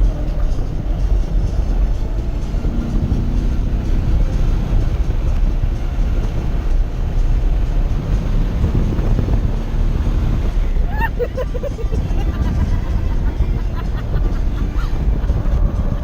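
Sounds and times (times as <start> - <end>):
race car engine from inside: 0.0 - 16.0
road noise: 0.0 - 16.0.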